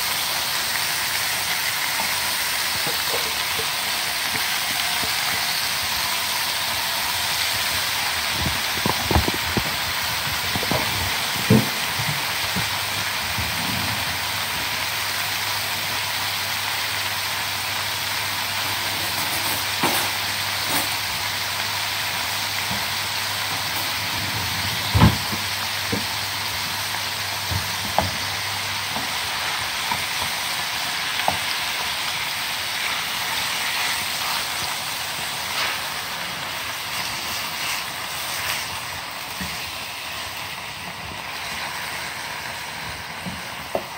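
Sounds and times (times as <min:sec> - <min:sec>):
chicken sizzling in oil: 0:00.0 - 0:43.9.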